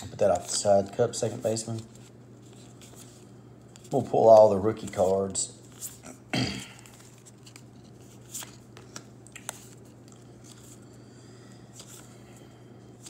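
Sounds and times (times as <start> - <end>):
cards rustling and clicking: 0.0 - 6.0, 6.8 - 10.8, 11.7 - 13.0
steady low hum: 0.0 - 13.0.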